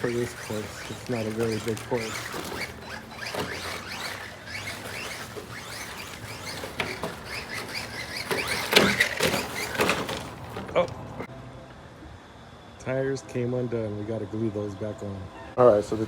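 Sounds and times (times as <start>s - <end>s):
rc car motor whining: 0.0s - 11.3s, 14.1s - 16.0s.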